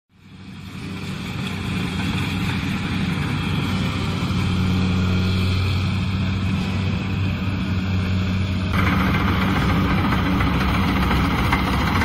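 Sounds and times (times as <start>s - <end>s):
diesel engine hum: 0.1s - 12.0s
cutting and threshing machinery: 0.2s - 12.0s.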